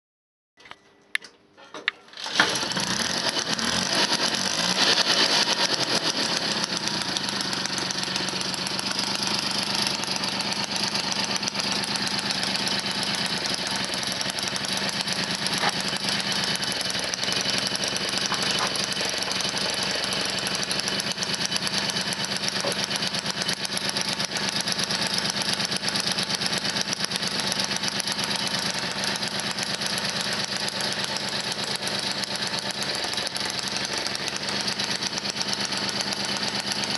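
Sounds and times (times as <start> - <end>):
two-stroke moped engine running: 2.1 - 36.9.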